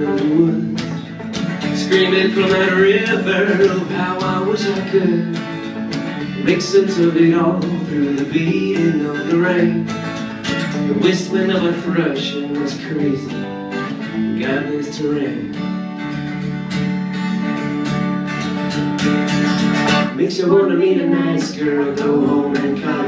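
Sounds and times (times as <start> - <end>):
electric guitar lead with bends: 0.0 - 20.2
acoustic guitar strumming chords: 0.0 - 23.0.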